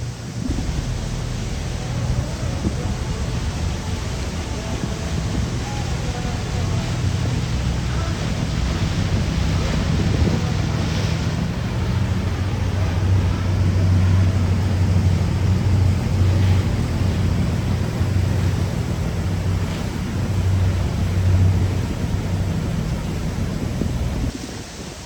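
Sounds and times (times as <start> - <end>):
boat engine droning: 0.0 - 25.0
rushing water and wind: 0.0 - 25.0.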